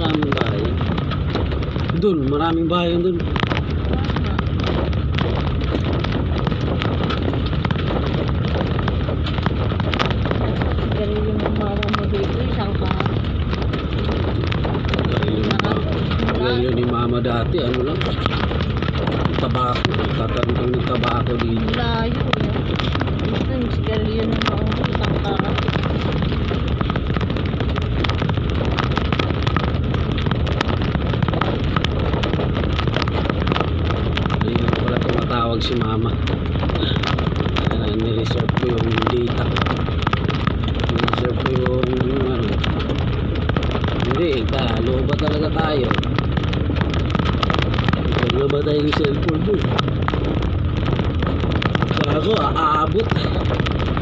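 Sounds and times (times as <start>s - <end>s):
clicks and rattles from bumps: 0.0s - 54.0s
vehicle rumbling on dirt road: 0.0s - 54.0s.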